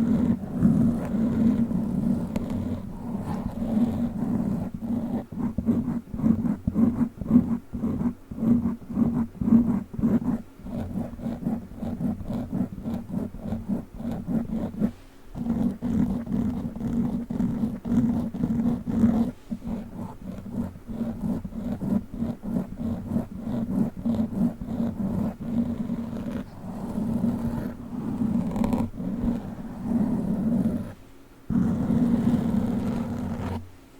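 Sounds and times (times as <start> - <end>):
claws scratching foam microphone cover: 0.0 - 33.7.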